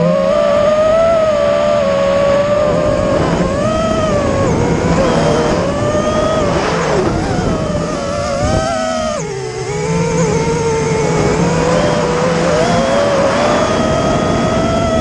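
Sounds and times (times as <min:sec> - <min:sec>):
drone motors and propellers whining: 0:00.0 - 0:15.0
rush of air noise: 0:02.2 - 0:15.0.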